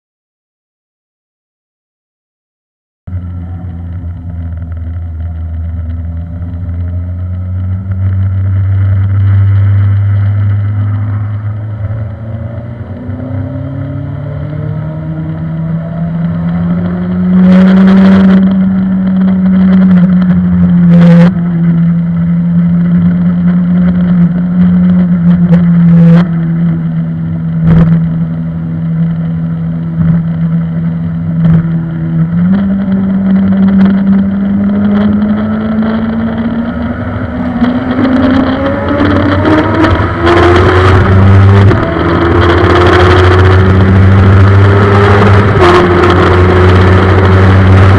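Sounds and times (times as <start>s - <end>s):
motorcycle engine revving: 3.1s - 47.9s.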